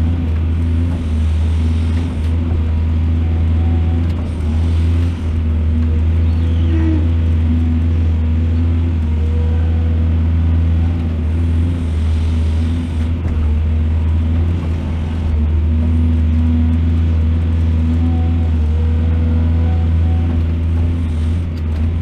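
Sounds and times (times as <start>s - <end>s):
excavator diesel engine rumbling: 0.0s - 22.0s.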